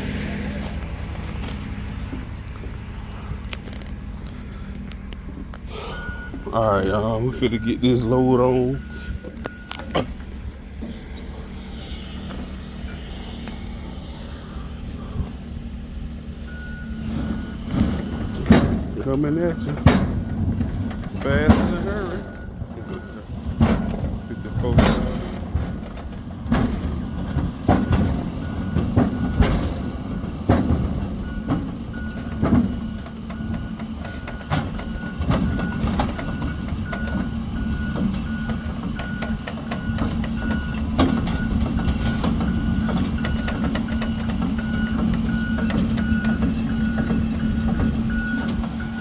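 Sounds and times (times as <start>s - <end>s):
excavator engine running: 0.0s - 49.0s
travel alarm beeping: 5.1s - 25.8s, 27.7s - 30.0s, 31.2s - 49.0s.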